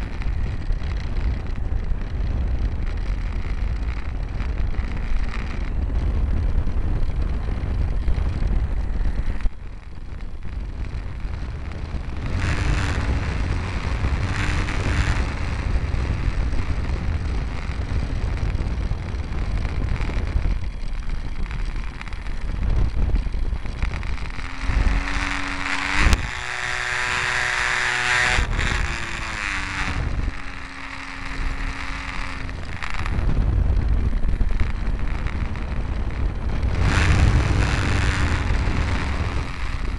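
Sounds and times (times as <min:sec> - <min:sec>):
electric motor and propeller whine: 0:00.0 - 0:39.9
wind buffeting microphone: 0:00.0 - 0:39.9.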